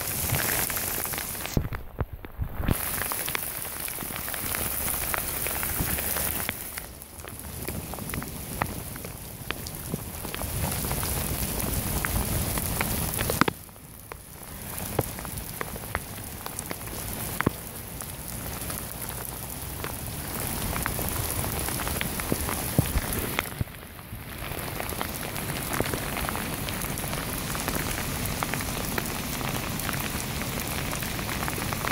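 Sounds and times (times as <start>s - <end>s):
heavy rain on pavement: 0.0s - 31.9s.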